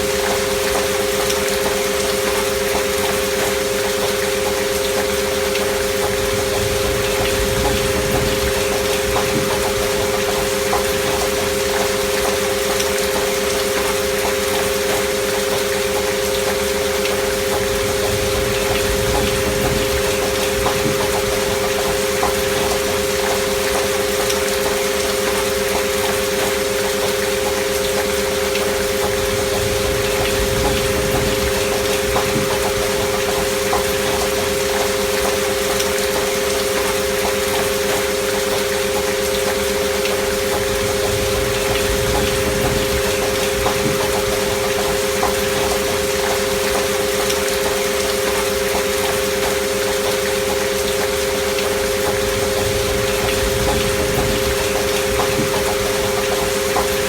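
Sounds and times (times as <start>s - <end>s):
pure sine tones: 0.0s - 57.0s
steady rain: 0.0s - 57.0s.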